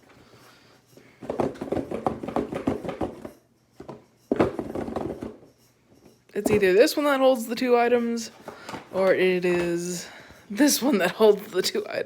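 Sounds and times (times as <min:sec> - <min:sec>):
packages knocking and rustling: 0:00.0 - 0:10.8.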